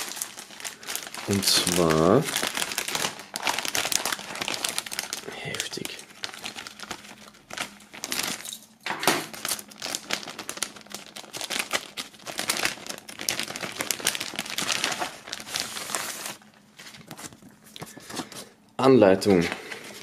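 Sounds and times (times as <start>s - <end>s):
plastic sheet crinkling: 0.0s - 18.6s.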